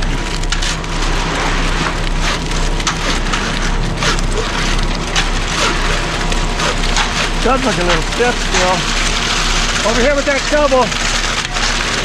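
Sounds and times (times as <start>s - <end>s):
diesel truck engine humming: 0.0s - 12.0s
wet concrete sliding and scraping: 0.0s - 12.0s.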